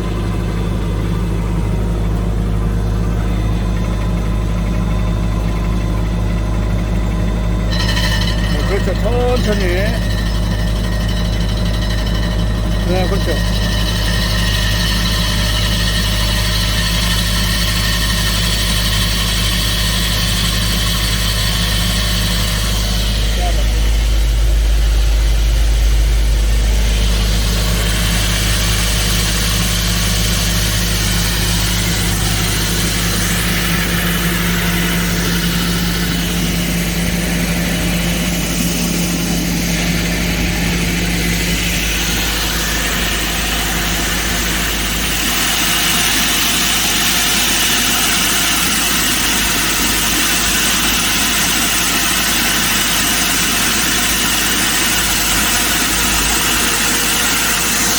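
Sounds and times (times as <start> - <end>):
diesel engine running under load: 0.0 - 57.9
hydraulic drill boring into rock: 6.6 - 24.1, 26.9 - 57.9.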